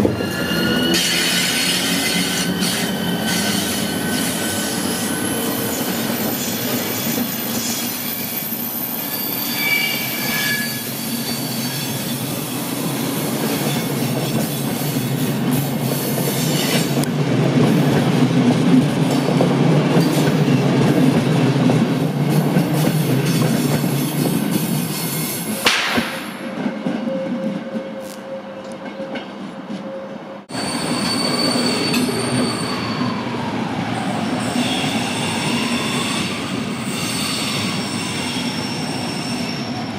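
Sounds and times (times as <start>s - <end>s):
train wheel squeals: 0.0s - 17.1s, 22.8s - 33.3s, 34.1s - 39.9s
train wheels rumbling on rails: 0.0s - 39.9s.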